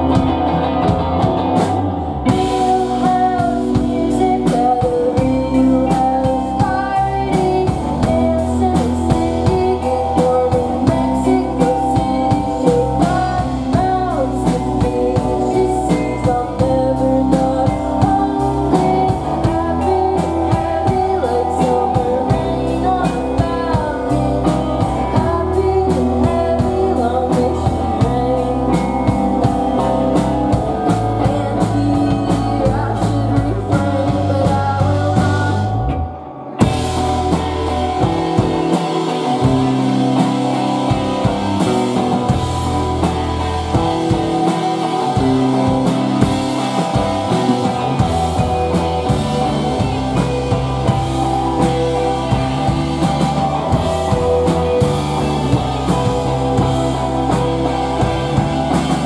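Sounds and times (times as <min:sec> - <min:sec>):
bass guitar: 0:00.0 - 0:59.0
drum kit: 0:00.0 - 0:59.0
electric guitars: 0:00.0 - 0:59.0
lead vocals: 0:00.0 - 0:59.0.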